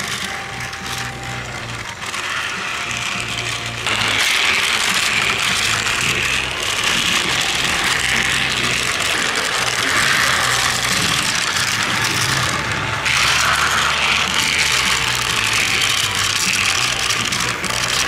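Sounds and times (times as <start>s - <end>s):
toy train motor whirring: 0.0s - 18.0s.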